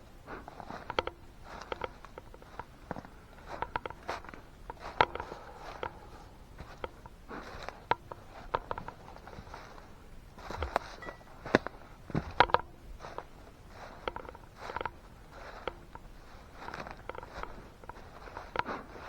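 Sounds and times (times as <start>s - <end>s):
light clicks and taps: 0.1s - 19.0s.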